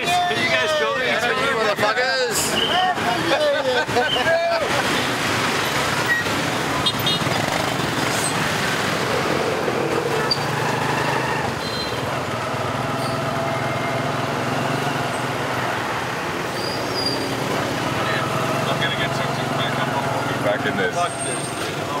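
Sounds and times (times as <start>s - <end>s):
motorbike and car traffic: 0.0s - 22.0s.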